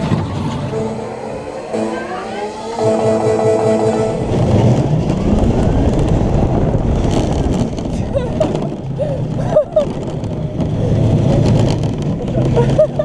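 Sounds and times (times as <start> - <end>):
ride car rumbling on track: 0.0 - 13.0.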